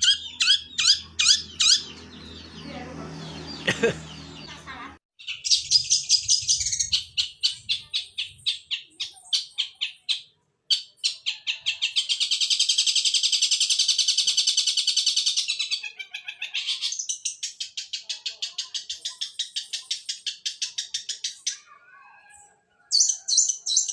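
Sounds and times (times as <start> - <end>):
bird chirping and chattering: 0.0 - 23.9.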